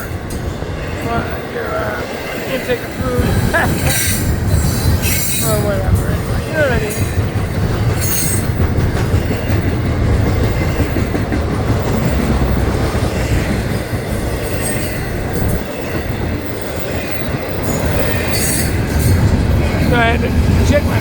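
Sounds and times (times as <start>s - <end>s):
freight train rumbling past: 0.0s - 21.0s
wheels clattering over rails: 0.0s - 21.0s.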